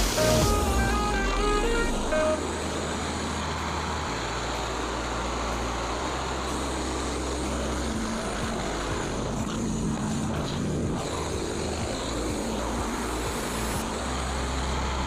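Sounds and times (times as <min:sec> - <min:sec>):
gasoline engine running: 0:00.0 - 0:15.0.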